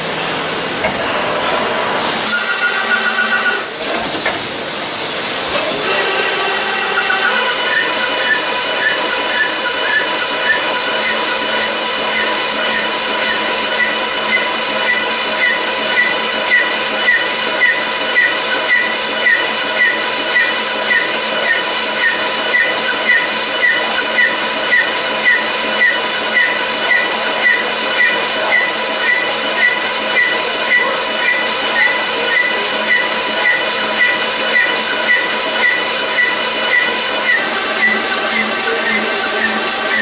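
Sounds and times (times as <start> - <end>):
machine hissing: 1.9 - 40.0.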